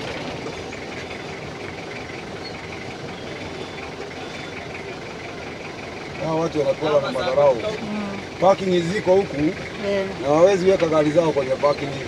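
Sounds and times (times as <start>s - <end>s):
vehicle engine and traffic noise: 0.0s - 12.0s.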